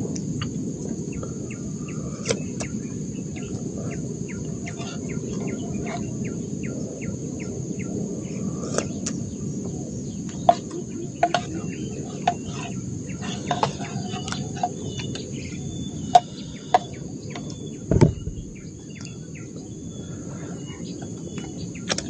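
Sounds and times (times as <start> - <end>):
insects calling: 0.0 - 22.0
low background rumble: 0.0 - 22.0
bird chirps: 1.1 - 22.0.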